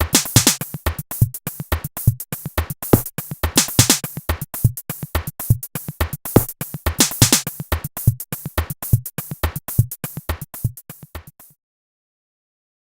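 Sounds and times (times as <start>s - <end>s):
electronic music with drum-machine beat: 0.0s - 11.6s.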